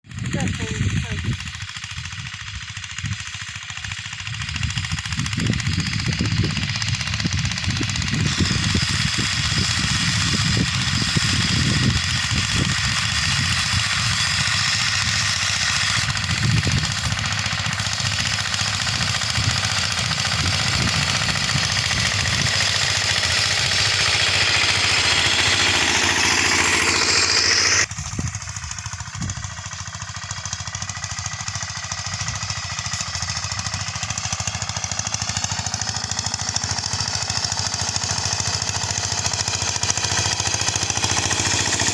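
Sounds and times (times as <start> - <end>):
tractor engine knocking: 0.0 - 41.9.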